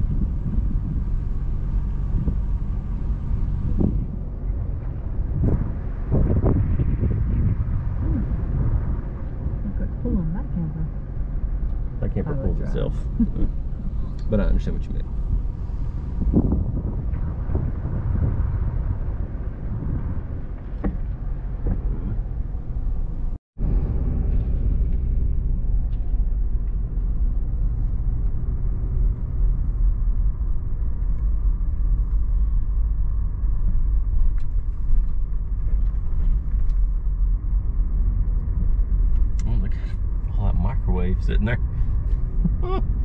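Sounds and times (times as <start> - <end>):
car engine rumble inside cabin: 0.0 - 43.0.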